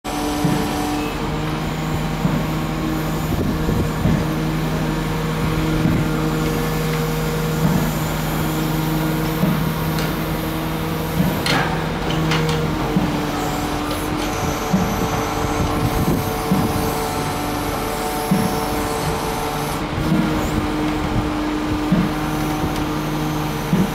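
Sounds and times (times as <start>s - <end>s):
excavator engine humming: 0.1s - 23.9s
excavator arm knocks and clanks: 0.4s - 8.5s, 9.1s - 23.9s.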